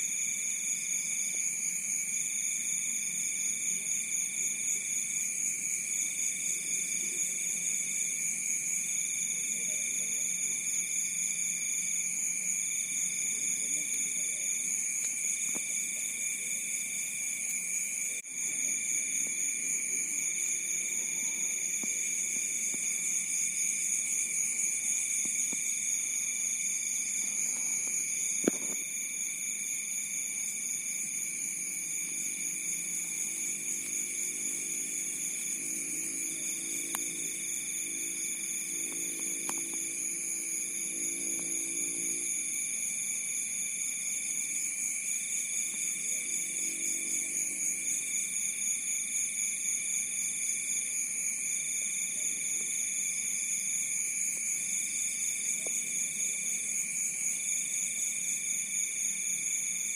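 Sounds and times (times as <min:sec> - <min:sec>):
crickets trilling: 0:00.0 - 0:59.9
insect call: 0:00.0 - 0:59.9.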